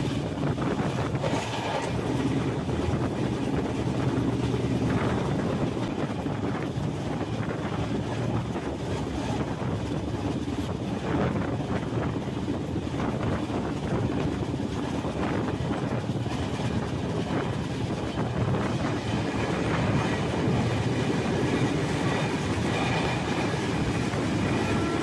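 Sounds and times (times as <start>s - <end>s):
train coach rumble: 0.0s - 25.0s
wind blowing across microphone: 0.0s - 25.0s.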